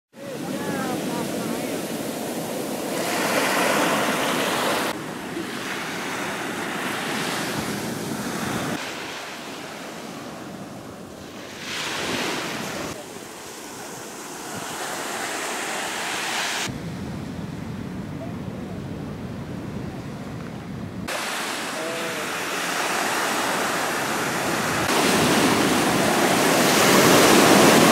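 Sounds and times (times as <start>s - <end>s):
wind on microphone: 0.2s - 13.0s, 13.7s - 27.9s
waves washing up a beach: 0.2s - 16.7s, 21.0s - 27.9s.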